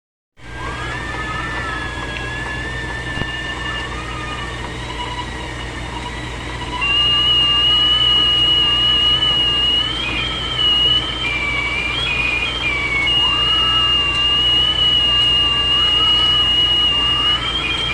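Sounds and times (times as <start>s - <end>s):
kettle whistling: 0.4s - 17.9s
steady low hum: 0.4s - 17.9s.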